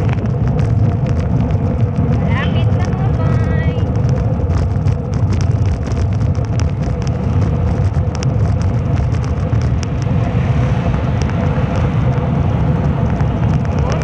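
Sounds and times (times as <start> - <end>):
vehicle engine rumble: 0.0 - 14.0
wind and road noise: 0.0 - 14.0.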